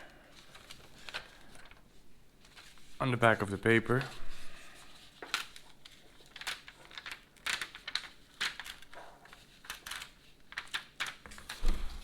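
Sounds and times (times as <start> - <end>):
paper crinkling and crackling: 0.3 - 12.0.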